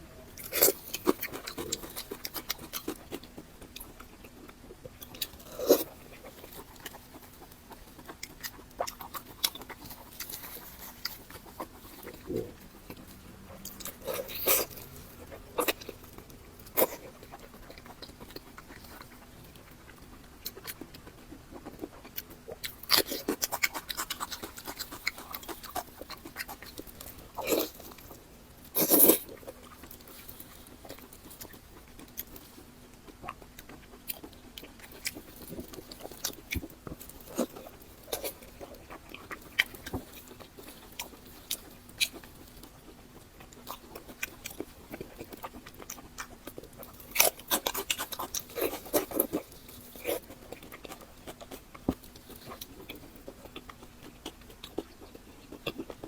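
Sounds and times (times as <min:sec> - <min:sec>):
crunchy chewing and biting: 0:00.3 - 0:56.0.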